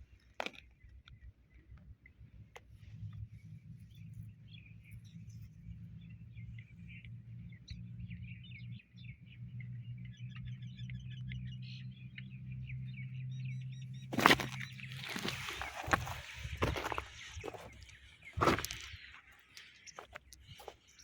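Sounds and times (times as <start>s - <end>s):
small birds chirping: 3.8s - 21.0s.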